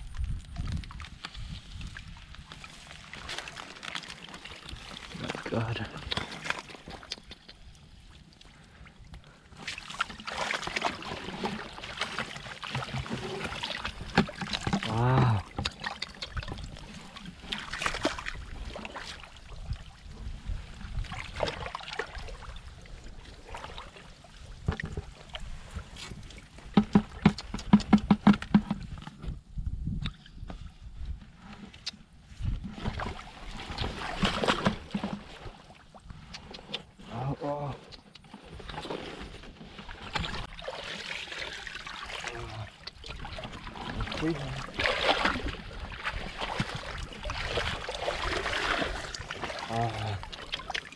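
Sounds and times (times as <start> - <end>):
water splashes: 0.0 - 29.1, 31.7 - 50.9
water sloshing and trickling: 0.0 - 29.5, 30.1 - 50.9.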